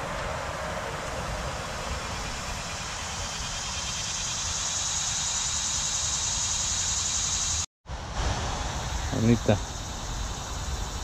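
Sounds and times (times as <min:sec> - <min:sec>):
high-pitched insect chorus: 0:00.8 - 0:11.0.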